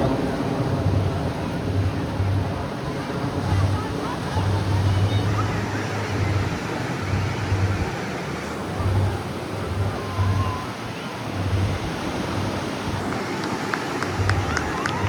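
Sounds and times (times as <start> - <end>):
surf: 0.0 - 15.0
wind buffeting microphone: 0.0 - 15.0.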